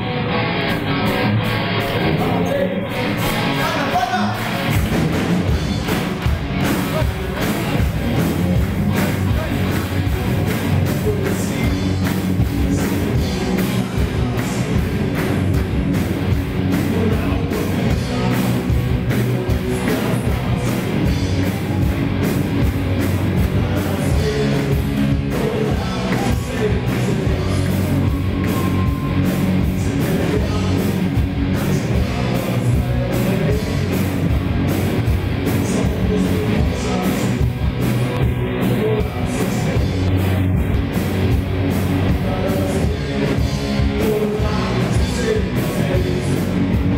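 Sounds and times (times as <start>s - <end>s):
bass guitar: 0.0s - 46.9s
electric guitars: 0.0s - 46.9s
drum kit: 0.5s - 46.9s.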